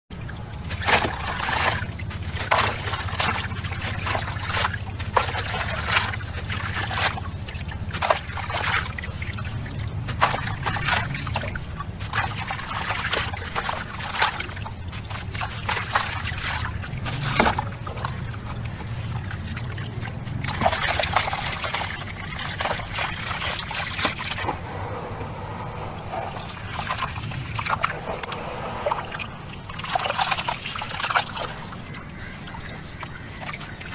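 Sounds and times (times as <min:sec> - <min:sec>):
hands sloshing through water: 0:00.2 - 0:33.9
chunks splashing into water: 0:00.3 - 0:33.9.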